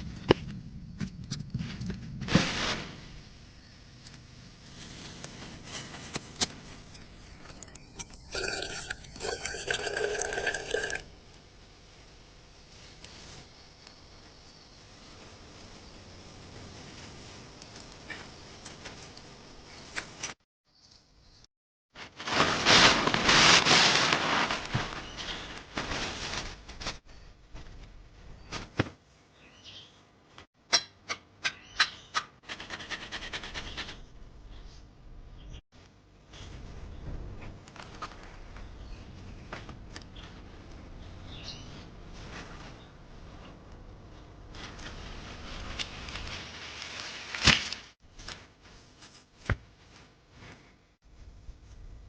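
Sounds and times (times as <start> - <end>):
dense crackling rustle: 0.0 - 19.4, 22.0 - 28.7, 36.3 - 52.0.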